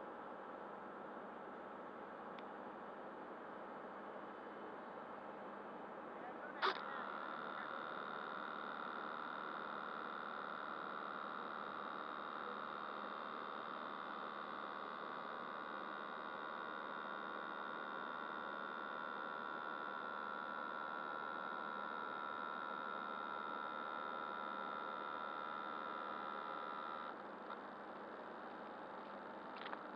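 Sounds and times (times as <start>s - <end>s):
high-pitched electrical hum: 0.0s - 29.9s.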